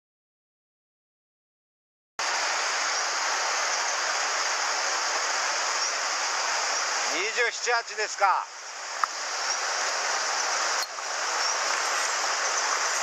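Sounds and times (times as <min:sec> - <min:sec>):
stream rushing over rocks: 0:02.2 - 0:13.0.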